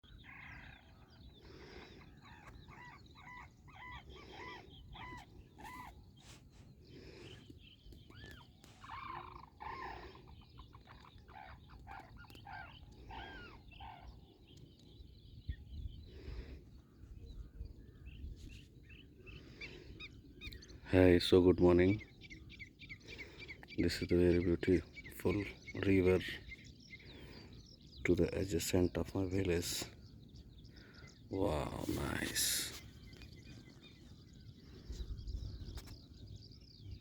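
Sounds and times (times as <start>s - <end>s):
birds calling: 0.0s - 37.0s.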